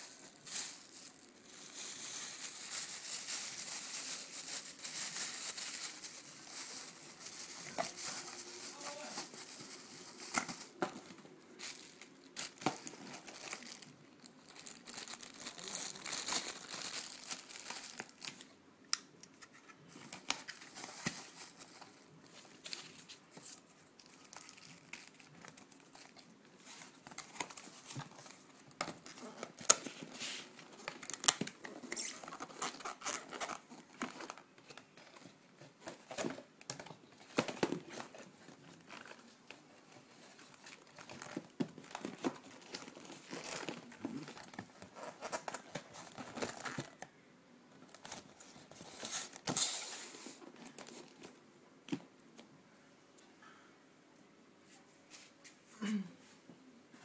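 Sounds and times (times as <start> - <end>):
packaging crinkling and rustling: 0.0 - 18.5, 19.5 - 47.1, 47.8 - 52.0.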